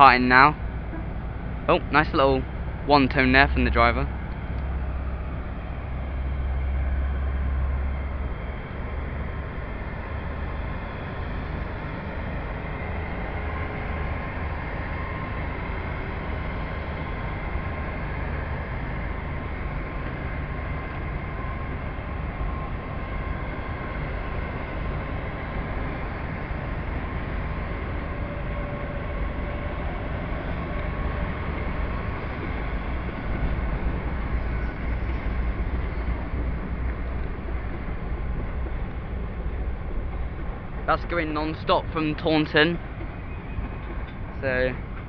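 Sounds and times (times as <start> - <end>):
diesel engine drone: 0.0 - 45.0
faint whine: 0.0 - 45.0.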